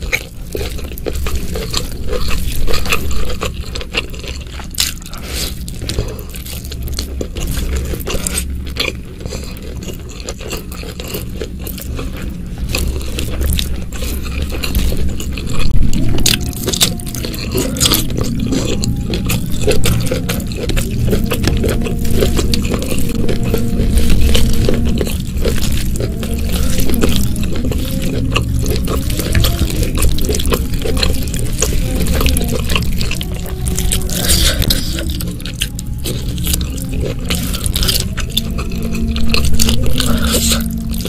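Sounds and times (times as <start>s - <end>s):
person chewing with wet mouth clicks: 0.0s - 41.0s.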